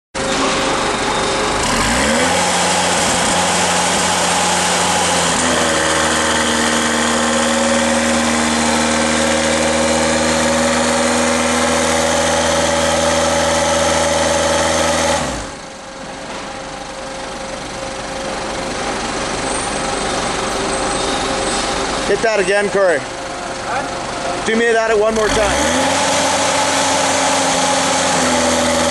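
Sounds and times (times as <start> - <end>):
forklift engine running: 0.1 - 28.9.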